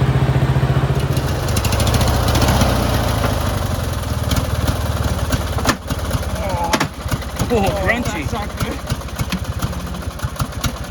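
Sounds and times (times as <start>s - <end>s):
lawnmower engine running: 0.0s - 10.9s.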